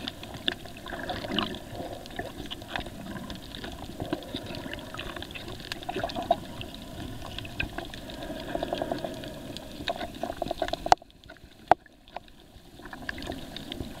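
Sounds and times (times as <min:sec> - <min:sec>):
small clicks and crackles: 0:00.0 - 0:14.0
underwater water noise: 0:00.0 - 0:14.0.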